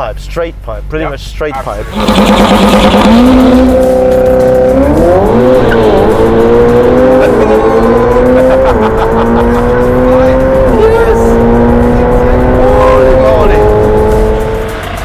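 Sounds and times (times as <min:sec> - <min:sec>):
sports car engine accelerating: 0:01.6 - 0:15.0.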